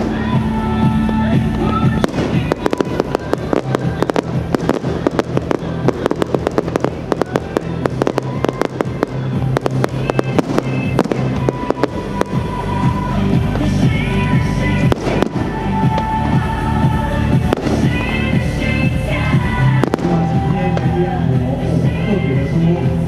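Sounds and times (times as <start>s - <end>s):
fireworks crackling and popping: 0.0s - 21.8s.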